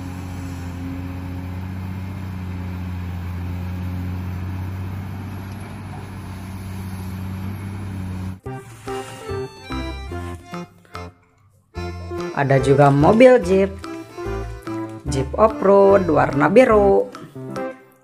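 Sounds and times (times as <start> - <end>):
excavator diesel engine running: 0.0 - 11.2, 11.8 - 17.2.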